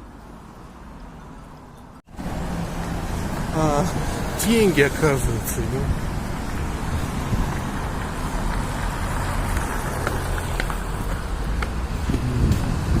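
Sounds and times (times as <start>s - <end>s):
street noise with low rumble: 0.0s - 13.0s.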